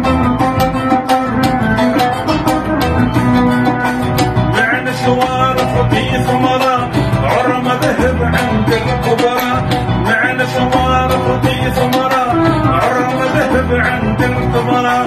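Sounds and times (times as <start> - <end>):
oud and keyboard melody over beat: 0.0 - 15.0.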